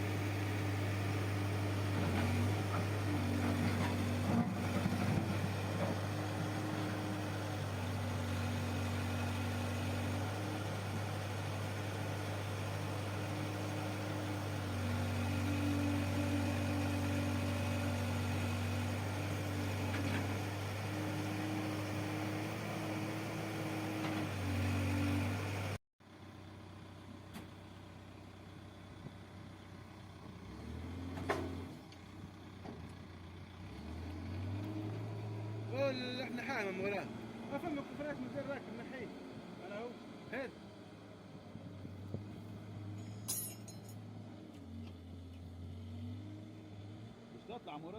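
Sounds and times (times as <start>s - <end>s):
diesel engine running: 0.0s - 43.2s.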